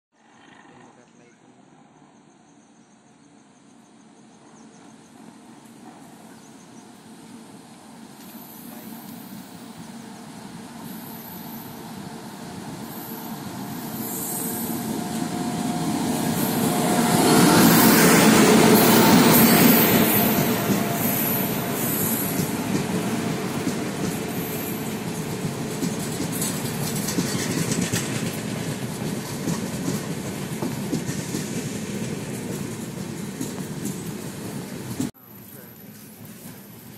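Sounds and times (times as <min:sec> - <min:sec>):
train rumbling: 0:03.5 - 0:36.9.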